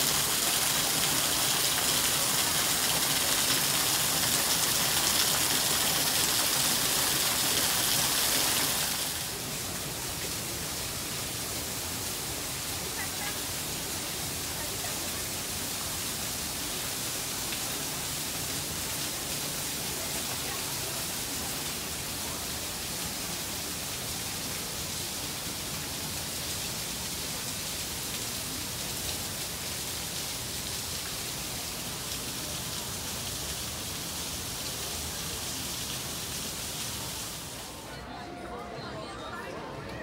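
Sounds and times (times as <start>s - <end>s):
falling water hiss: 0.0s - 38.0s.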